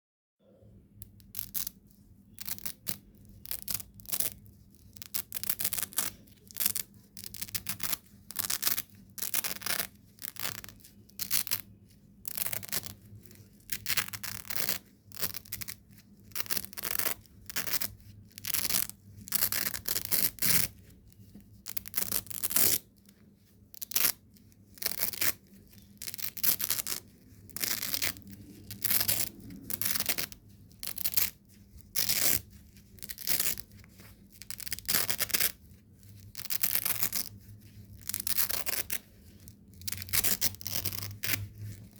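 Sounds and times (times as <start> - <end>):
velcro ripping apart: 1.3 - 1.8, 2.4 - 20.8, 21.6 - 23.1, 23.7 - 41.9.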